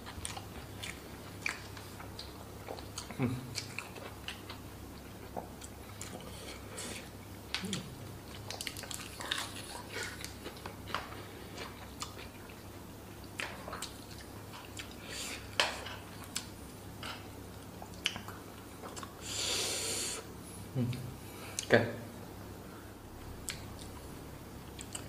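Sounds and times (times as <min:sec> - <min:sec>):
chewing and wet mouth sounds: 0:00.0 - 0:19.2, 0:23.4 - 0:25.0.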